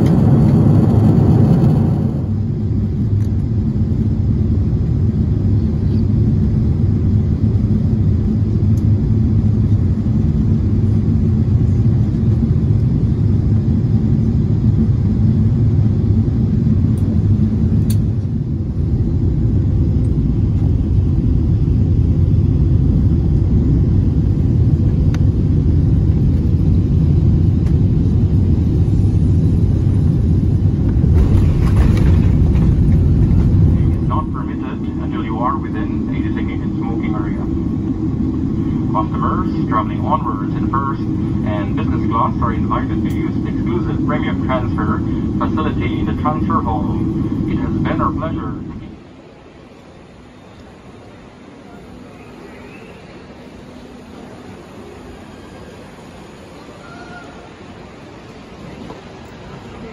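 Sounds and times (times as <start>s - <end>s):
aircraft landing roar: 0.0s - 59.9s
airliner cabin rumble: 0.0s - 59.9s.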